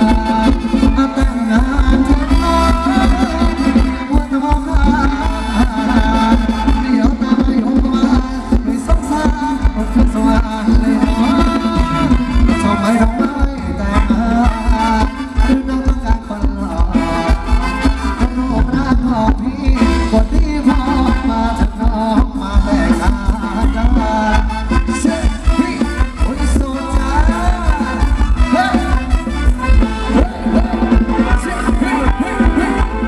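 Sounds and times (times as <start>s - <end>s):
live band dance music: 0.0s - 33.0s.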